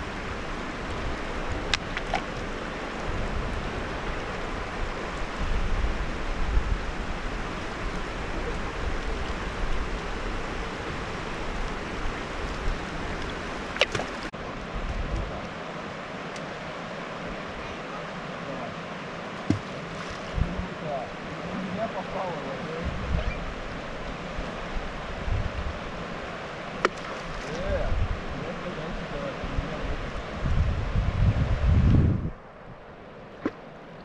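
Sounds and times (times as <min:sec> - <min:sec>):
river water rushing: 0:00.0 - 0:30.9, 0:32.4 - 0:34.0.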